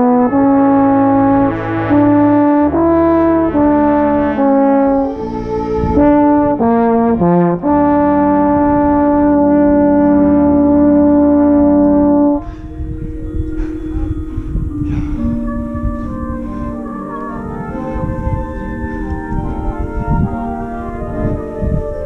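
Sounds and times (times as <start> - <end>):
marching band brass chords: 0.0 - 22.0.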